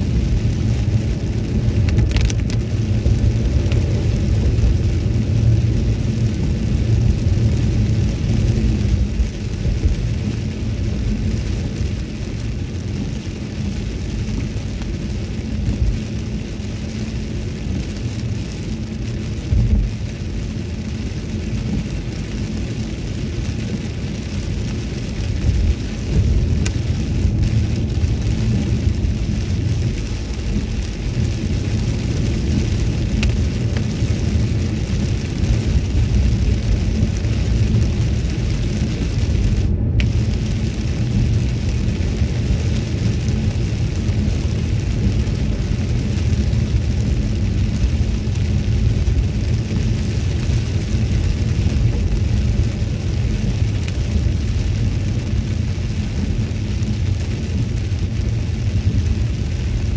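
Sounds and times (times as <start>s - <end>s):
low road rumble: 0.0s - 59.9s
rain on car: 0.0s - 59.9s
tyres hissing on wet asphalt: 0.0s - 59.9s.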